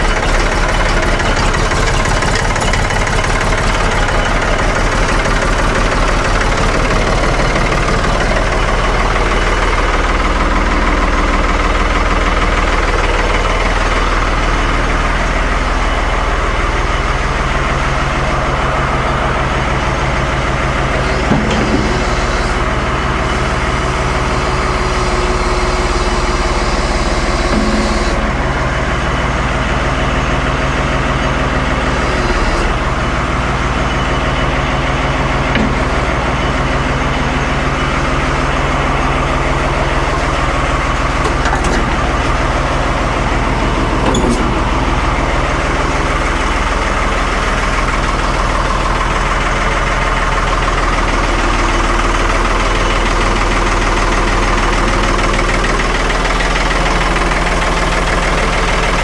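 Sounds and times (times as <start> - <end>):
diesel engine fast idle: 0.0 - 59.0.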